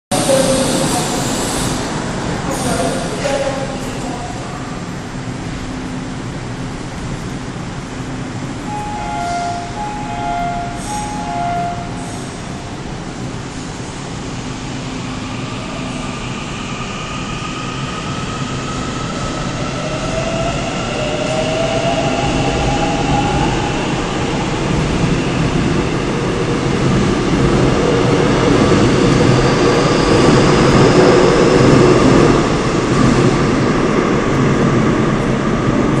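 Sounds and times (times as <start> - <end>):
train wheels rumbling on rail: 0.1 - 36.0
train inverter whine: 4.8 - 35.5.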